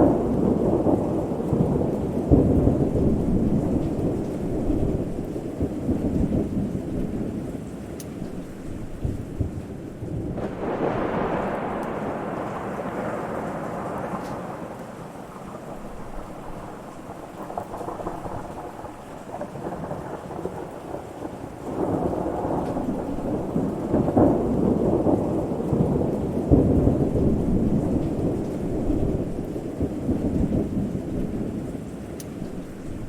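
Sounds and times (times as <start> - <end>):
rolling thunder: 0.0 - 33.0.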